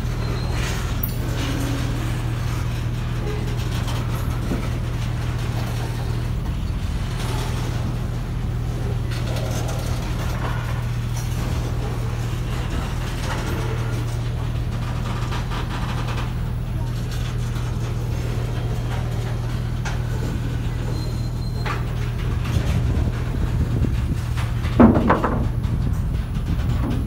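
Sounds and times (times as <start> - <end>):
freight train wheels rumbling: 0.0 - 27.0
clicks and clanks: 0.1 - 27.0.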